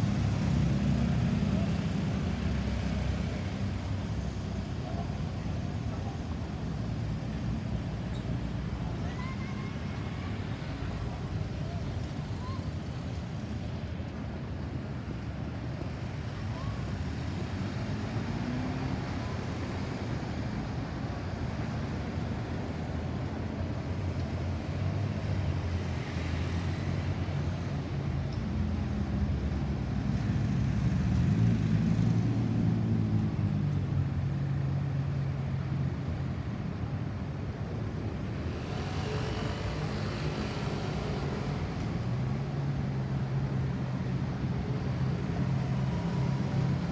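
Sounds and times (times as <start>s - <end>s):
road traffic engines: 0.0s - 46.9s.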